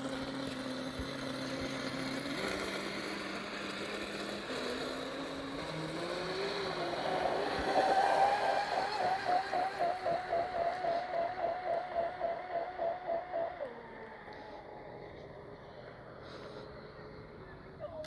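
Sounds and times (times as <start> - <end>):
rc boat motor whining: 0.0 - 18.0.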